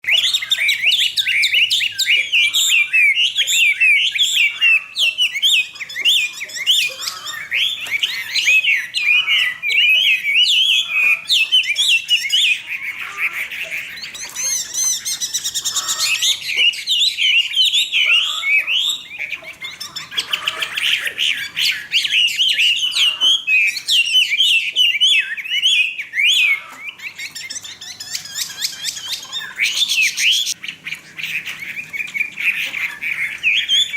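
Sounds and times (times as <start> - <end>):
bird singing whistled phrases: 0.0 - 13.0, 13.6 - 33.9
high bird trill: 0.0 - 33.9.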